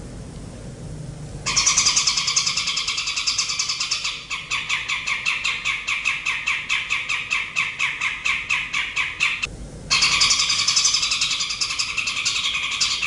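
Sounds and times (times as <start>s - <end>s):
bird chattering song: 1.5s - 13.0s.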